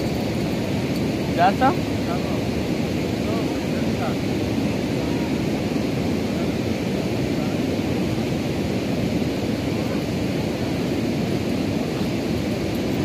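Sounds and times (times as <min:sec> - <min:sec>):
river water rushing over weir: 0:00.0 - 0:13.0.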